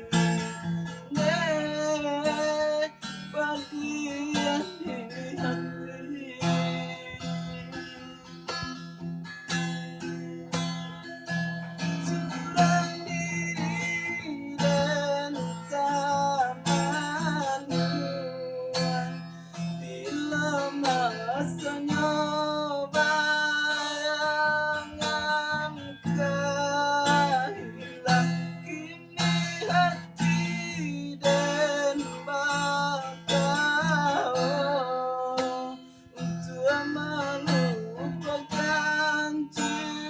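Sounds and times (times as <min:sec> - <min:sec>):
acoustic guitar strumming: 0:00.0 - 0:40.0.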